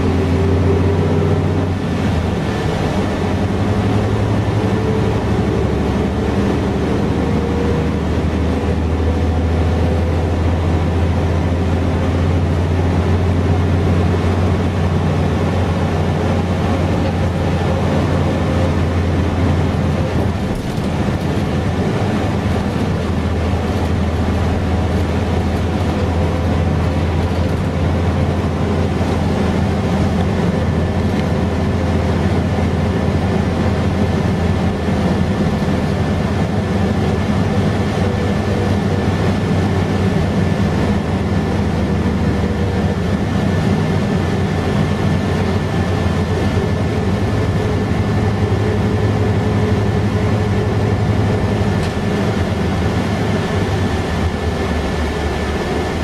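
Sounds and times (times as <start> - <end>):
diesel bus engine drone: 0.0 - 56.0
road noise: 0.0 - 56.0.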